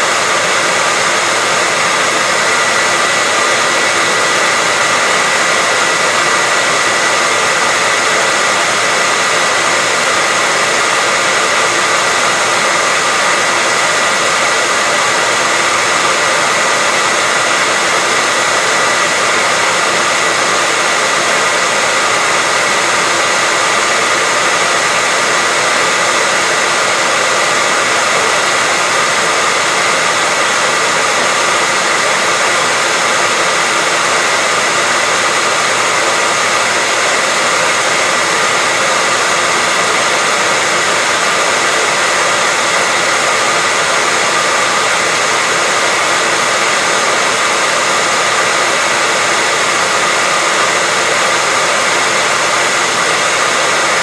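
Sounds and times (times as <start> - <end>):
hairdryer blowing with whine: 0.0 - 54.0.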